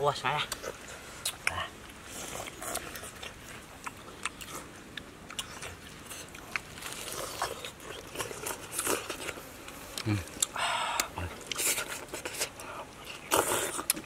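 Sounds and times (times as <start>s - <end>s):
chewing and slurping: 0.4s - 14.0s.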